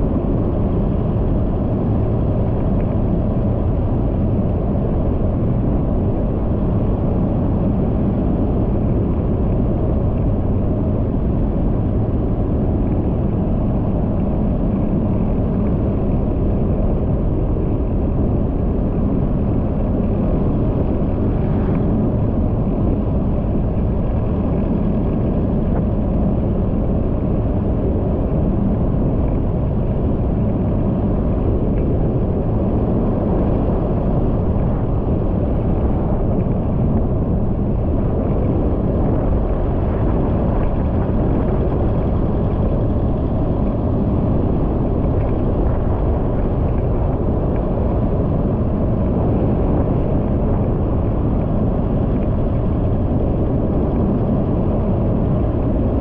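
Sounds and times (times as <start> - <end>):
wind noise: 0.0 - 56.0.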